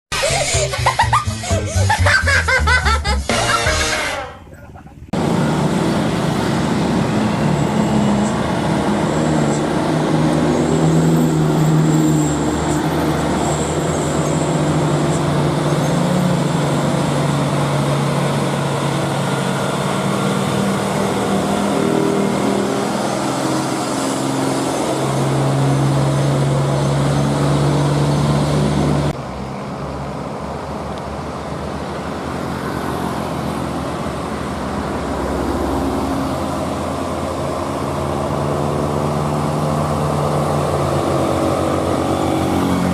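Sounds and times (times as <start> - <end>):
road noise: 0.0 - 42.9
diesel truck engine running: 0.1 - 42.9.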